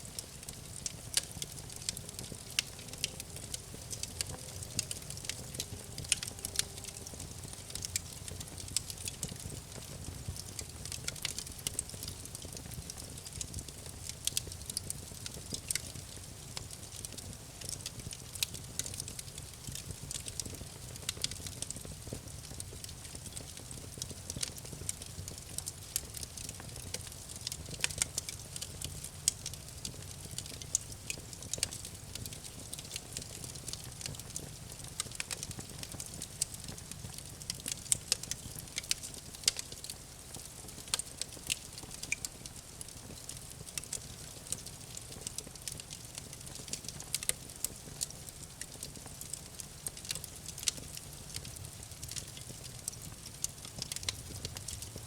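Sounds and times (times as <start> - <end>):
wood crackling and popping: 0.0 - 55.0.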